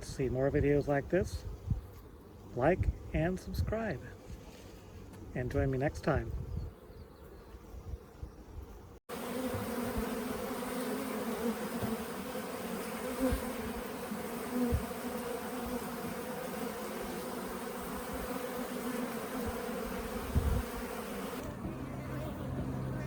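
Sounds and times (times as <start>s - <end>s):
honeybees buzzing: 4.5s - 23.0s.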